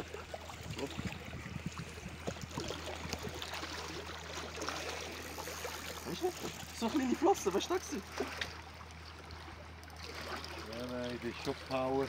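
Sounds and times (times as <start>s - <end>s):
low steady hum: 0.0s - 12.0s
small waves lapping on rocks: 0.0s - 12.0s.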